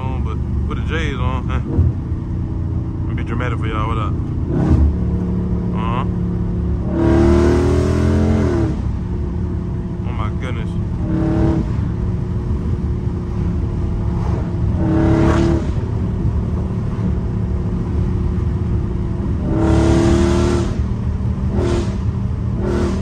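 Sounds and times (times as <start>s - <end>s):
car exhaust droning inside cabin: 0.0s - 23.0s.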